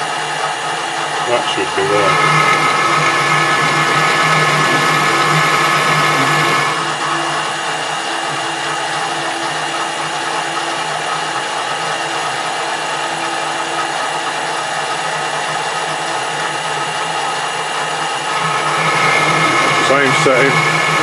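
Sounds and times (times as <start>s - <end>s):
metal lathe hum and whine: 0.0s - 21.0s.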